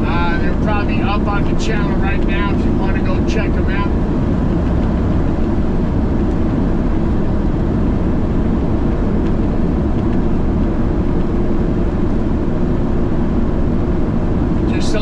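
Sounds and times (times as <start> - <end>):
truck diesel engine and road noise: 0.0 - 15.0.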